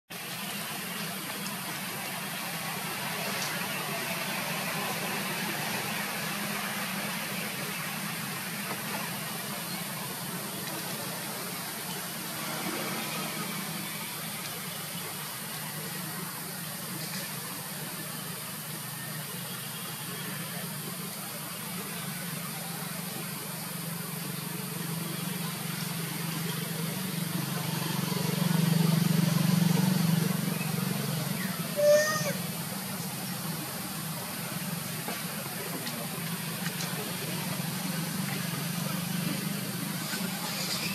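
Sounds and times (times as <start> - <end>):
steady background hiss: 0.1 - 40.9.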